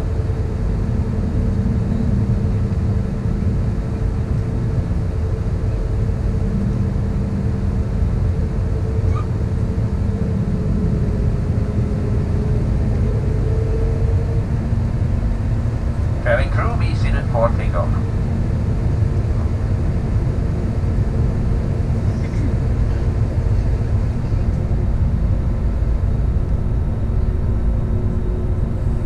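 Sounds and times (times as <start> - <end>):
faint constant hum: 0.0 - 29.0
jet engines idling: 0.0 - 29.0.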